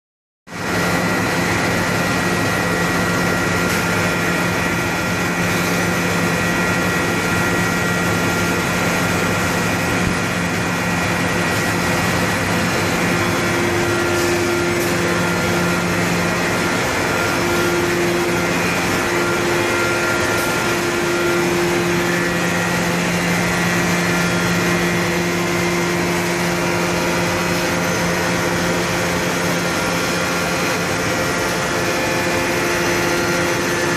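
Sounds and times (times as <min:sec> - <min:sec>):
intermittent machine tone: 0:00.5 - 0:33.9
machine hum with tones: 0:00.5 - 0:33.9
rush of air from blower: 0:00.6 - 0:33.9.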